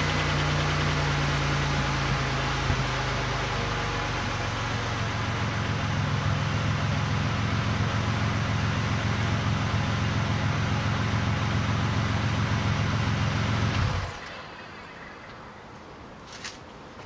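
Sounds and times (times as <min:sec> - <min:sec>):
car exhaust idling: 0:00.0 - 0:16.2.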